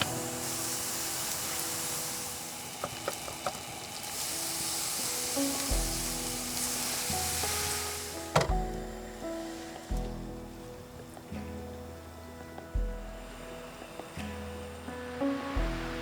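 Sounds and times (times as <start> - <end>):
skewers sizzling on a grill: 0.0 - 16.0
soft background music: 0.0 - 16.0.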